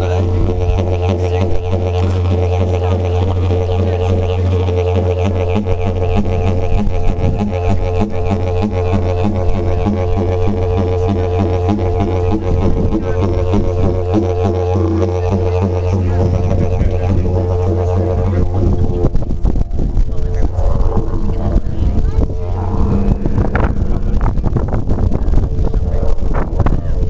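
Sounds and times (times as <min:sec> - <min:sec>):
didgeridoo drone: 0:00.0 - 0:27.0.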